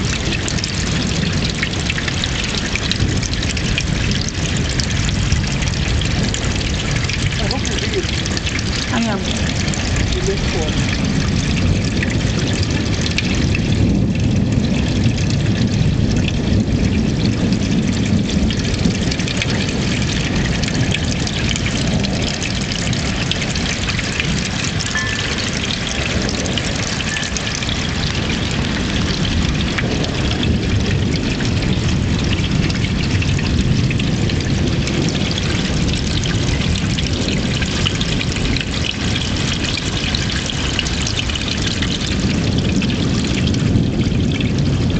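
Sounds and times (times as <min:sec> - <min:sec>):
heavy rain falling: 0:00.0 - 0:44.9
low rumble: 0:00.0 - 0:44.9.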